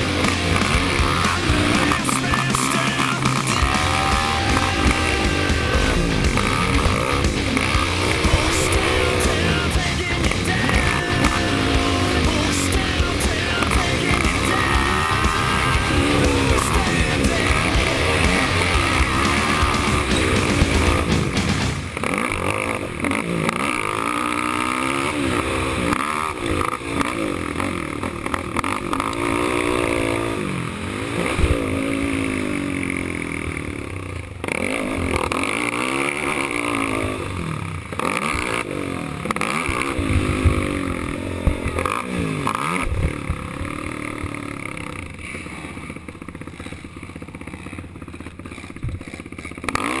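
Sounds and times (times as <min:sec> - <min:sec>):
quad engine revving: 0:00.0 - 0:50.0.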